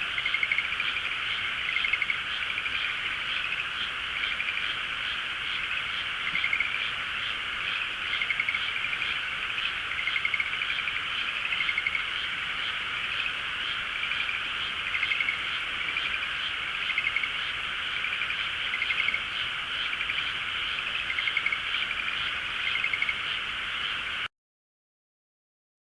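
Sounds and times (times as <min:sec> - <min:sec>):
chorus of frogs calling: 0:00.0 - 0:24.3
pulsed frog trills: 0:00.0 - 0:24.3.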